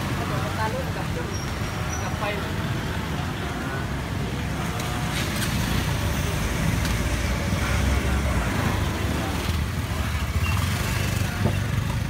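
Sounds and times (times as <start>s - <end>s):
faint voices: 0.0s - 12.0s
road traffic rumble: 0.0s - 12.0s.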